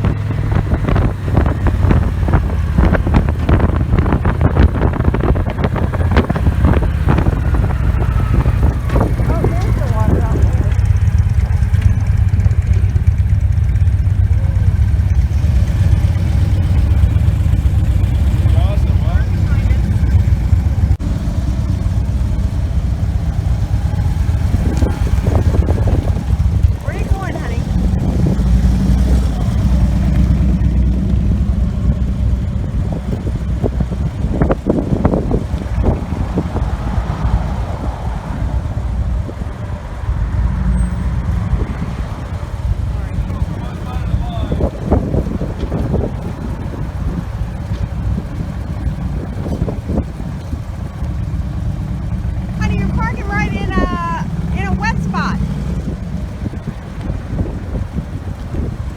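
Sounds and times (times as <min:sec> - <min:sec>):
motorcycle engine rumbling: 0:00.0 - 0:58.9
wind and road noise: 0:00.0 - 0:58.9
wind buffeting microphone: 0:00.0 - 0:58.9.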